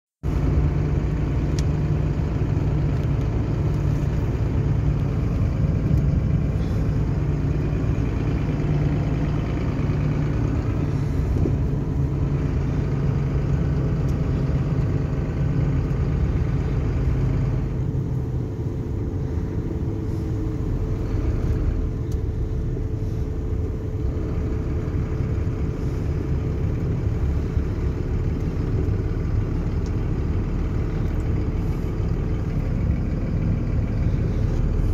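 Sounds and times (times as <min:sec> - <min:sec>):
truck diesel engine running: 0:00.2 - 0:34.9
tyre and road noise: 0:00.2 - 0:34.9.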